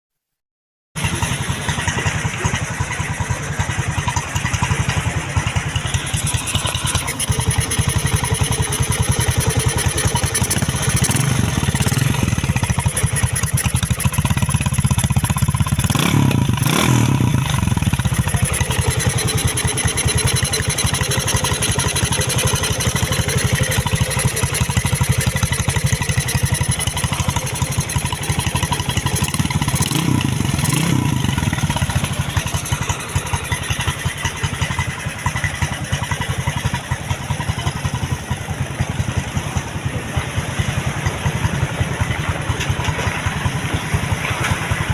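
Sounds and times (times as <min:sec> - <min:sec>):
motorcycle engine idling and revving: 0:01.0 - 0:44.9.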